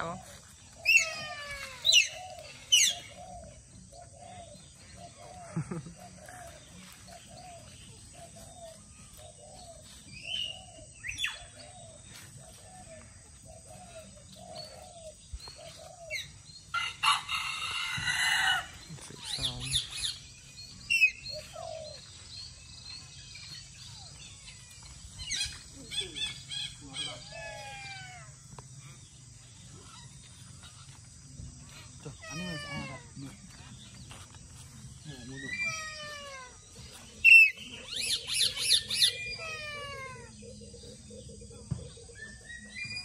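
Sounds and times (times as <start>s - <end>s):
parakeets calling: 0.0s - 5.6s, 13.0s - 43.0s.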